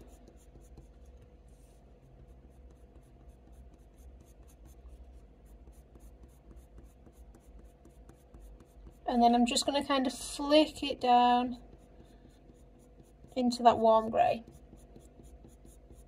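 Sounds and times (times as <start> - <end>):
colour pencil scratching on paper: 0.0 - 16.0.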